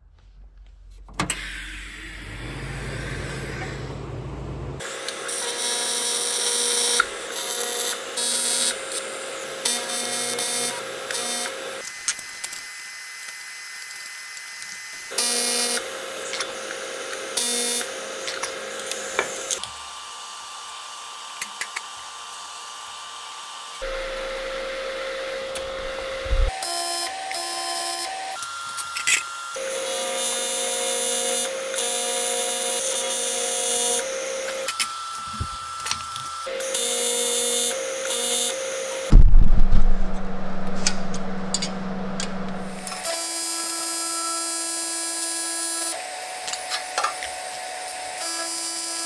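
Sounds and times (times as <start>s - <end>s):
welding arc buzzing and hissing: 4.8s - 46.0s.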